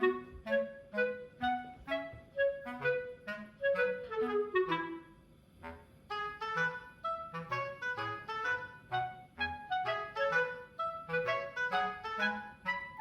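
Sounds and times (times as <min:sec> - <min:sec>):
light woodwind melody: 0:00.0 - 0:13.0.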